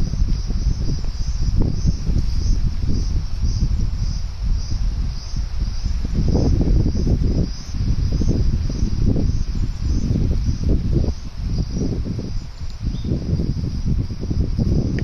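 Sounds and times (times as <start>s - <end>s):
insects chirping trill: 0.0s - 15.0s.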